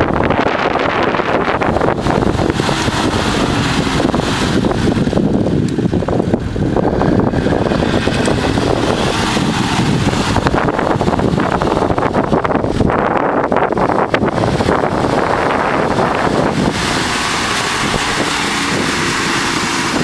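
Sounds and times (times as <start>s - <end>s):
engine straining: 0.0s - 20.0s
wheels churning in mud: 0.0s - 20.0s
wind buffeting microphone: 0.0s - 20.0s.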